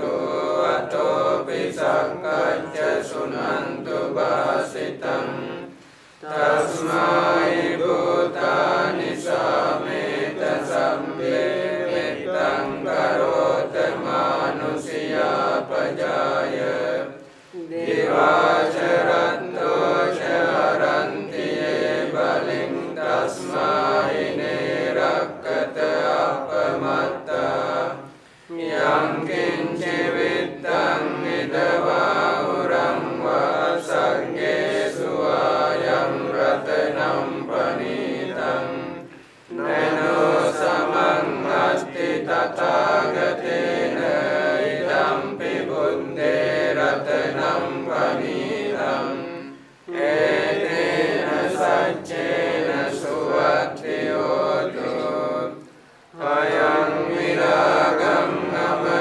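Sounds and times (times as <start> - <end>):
group chanting in unison: 0.0 - 59.0.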